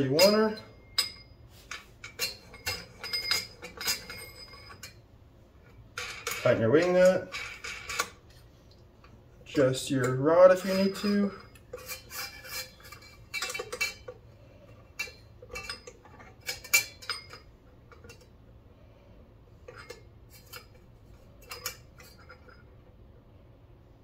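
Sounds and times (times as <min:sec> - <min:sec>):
light metal clinks and rattles: 0:00.0 - 0:08.4, 0:09.0 - 0:18.9, 0:19.6 - 0:22.8.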